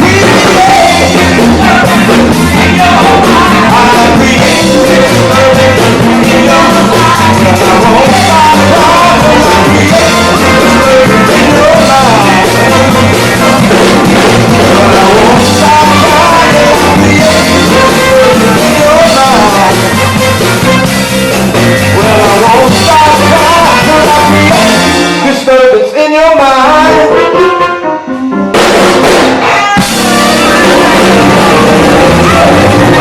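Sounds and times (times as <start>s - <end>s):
rock band playing loudly: 0.0s - 25.8s, 26.6s - 33.0s.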